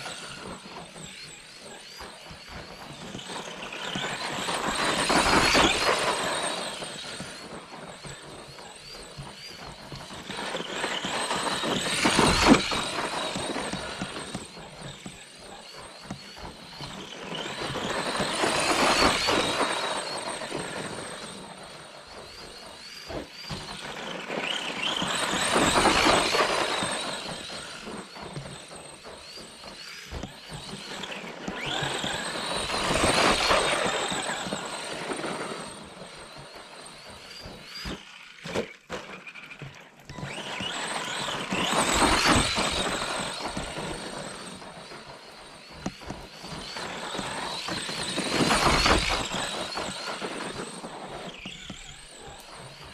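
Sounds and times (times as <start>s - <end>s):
toy truck electric motor whining: 0.0s - 52.9s.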